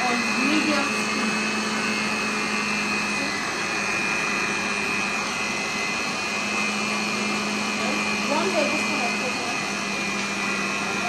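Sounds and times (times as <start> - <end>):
electric stand mixer humming: 0.0 - 11.0.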